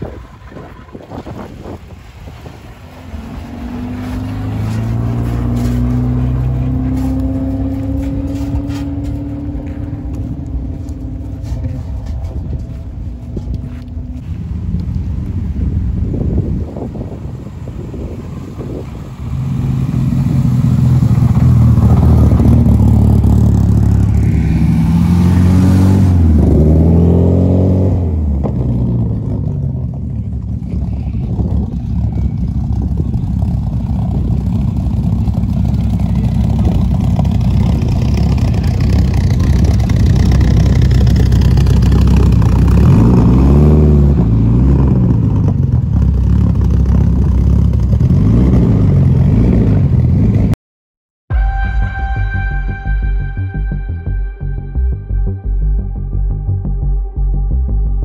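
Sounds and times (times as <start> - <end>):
car engines revving: 0.0 - 50.6
cars driving on gravel: 0.0 - 50.6.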